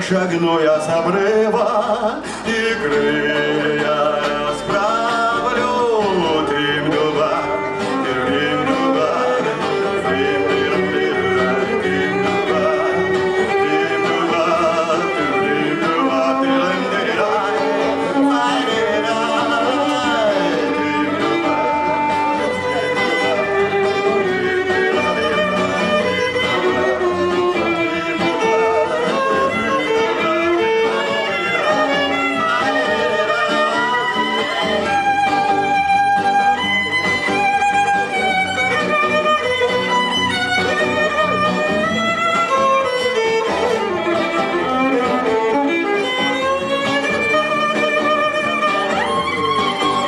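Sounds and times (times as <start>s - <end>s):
guitar accompaniment: 0.0s - 50.0s
violin melody: 0.0s - 50.0s.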